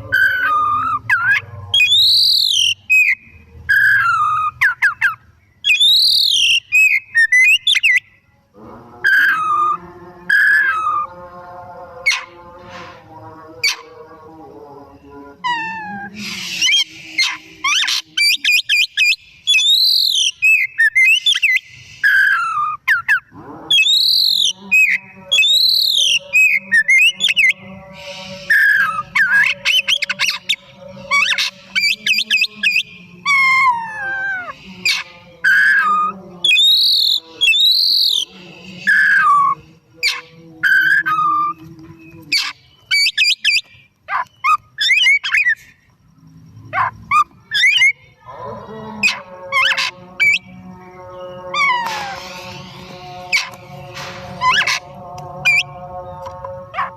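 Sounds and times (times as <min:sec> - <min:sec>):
bird singing whistled song: 0:00.1 - 0:08.2, 0:09.1 - 0:11.1, 0:15.5 - 0:45.9, 0:47.0 - 0:48.2, 0:49.0 - 0:54.8, 0:55.5 - 0:56.9.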